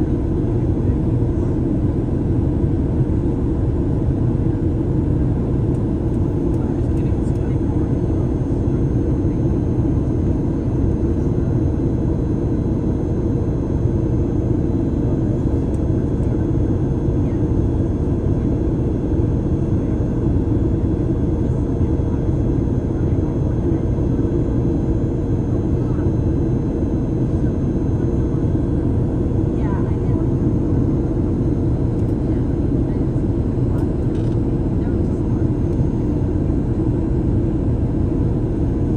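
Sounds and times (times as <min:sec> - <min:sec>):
airliner engine rumble in cabin: 0:00.0 - 0:38.9.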